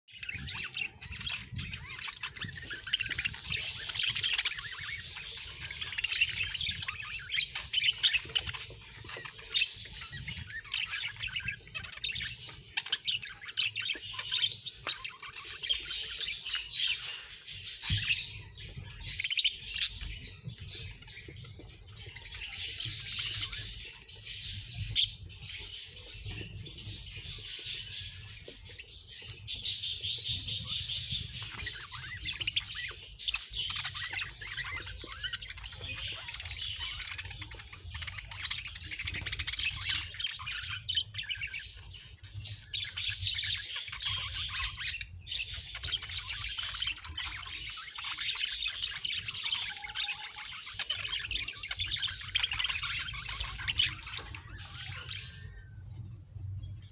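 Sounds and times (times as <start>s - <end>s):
budgerigars chattering and warbling: 0.1s - 56.9s.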